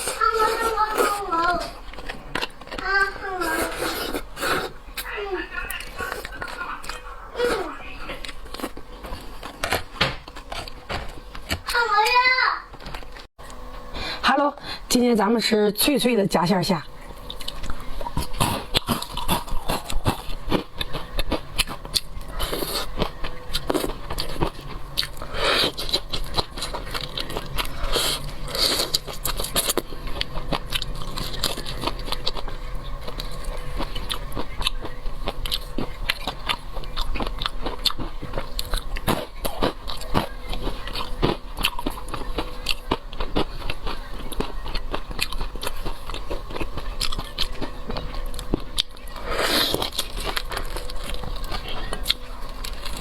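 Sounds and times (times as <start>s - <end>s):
crunchy biting and chewing: 0.0s - 11.7s, 17.2s - 53.0s.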